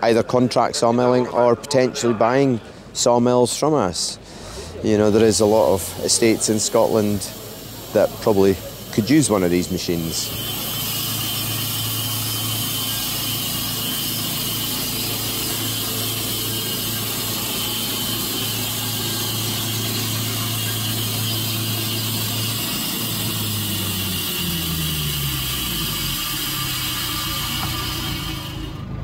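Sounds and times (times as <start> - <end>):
band sawmill cutting log: 5.0 - 29.0
petrol engine running: 5.1 - 29.0.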